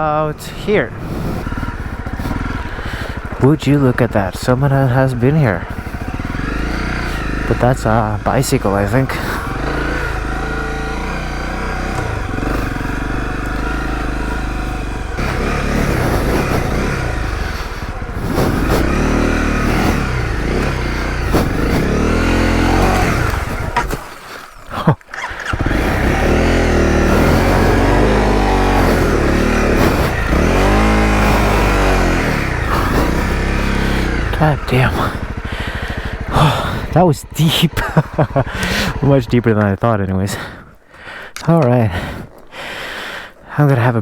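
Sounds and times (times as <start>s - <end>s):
motorcycle engine revving: 0.0s - 43.4s.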